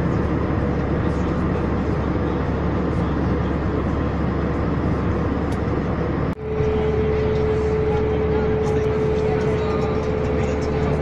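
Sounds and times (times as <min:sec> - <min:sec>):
airliner cabin engine rush: 0:00.0 - 0:11.0
steady hum: 0:00.0 - 0:11.0.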